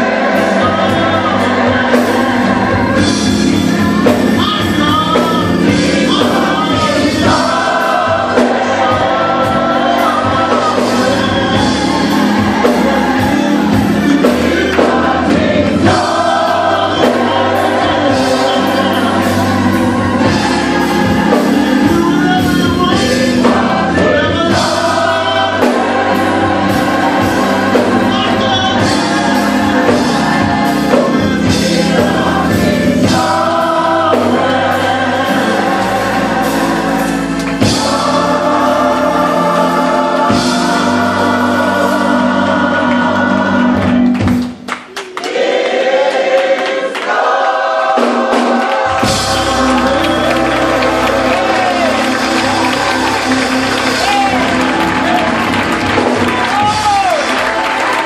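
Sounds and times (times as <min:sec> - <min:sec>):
bass accompaniment: 0:00.0 - 0:46.4, 0:47.1 - 0:58.0
gospel choir singing: 0:00.0 - 0:58.0.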